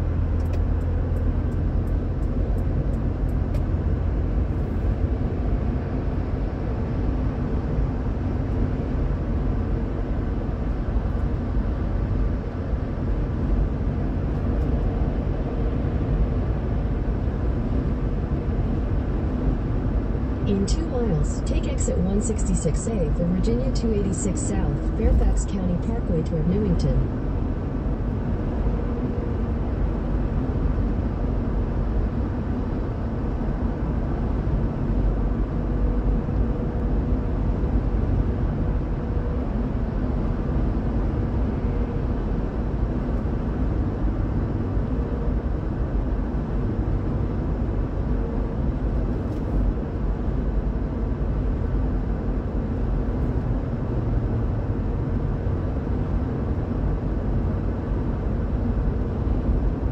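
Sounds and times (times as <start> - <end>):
car cruising at highway speed: 0.0 - 59.9.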